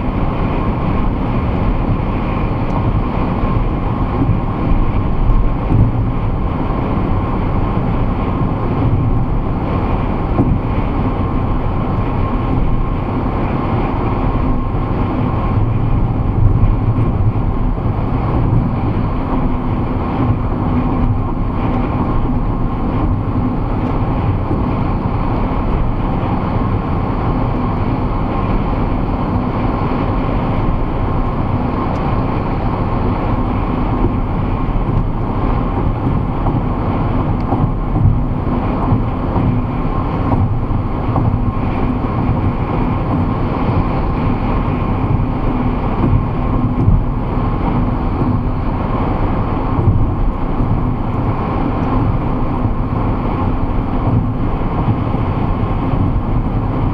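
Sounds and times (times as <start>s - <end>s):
car engine drone: 0.0s - 56.9s.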